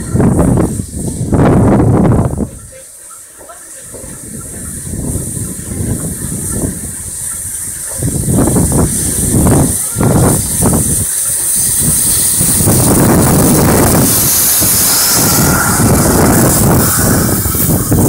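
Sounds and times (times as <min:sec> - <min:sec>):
steam locomotive hissing steam: 0:00.0 - 0:18.0.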